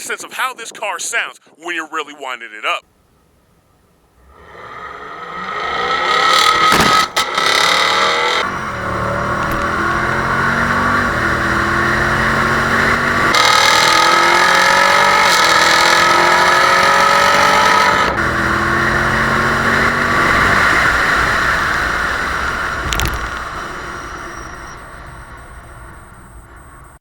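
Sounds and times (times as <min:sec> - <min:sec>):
car engine at full throttle: 0:04.0 - 0:27.0.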